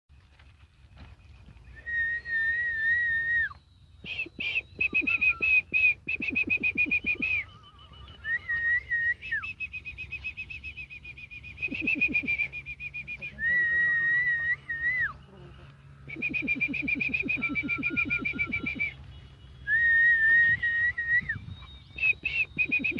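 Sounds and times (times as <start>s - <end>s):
donkey braying: 1.8s - 22.9s.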